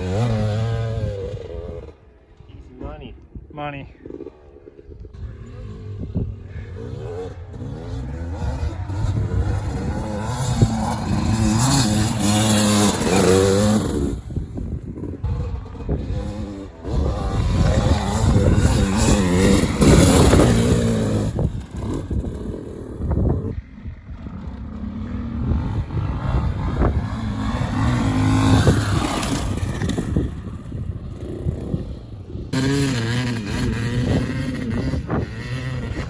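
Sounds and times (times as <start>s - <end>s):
dirt bike engine revving: 0.0s - 2.0s, 4.0s - 36.0s.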